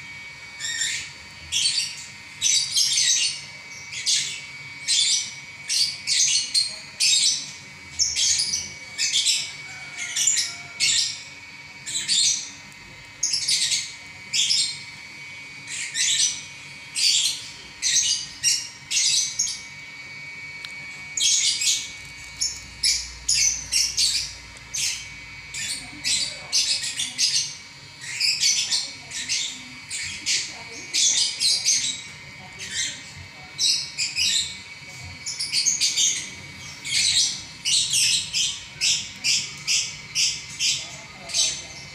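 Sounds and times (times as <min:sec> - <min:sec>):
lovebird singing: 0:00.6 - 0:12.6, 0:13.2 - 0:15.0, 0:15.6 - 0:19.8, 0:21.2 - 0:41.9.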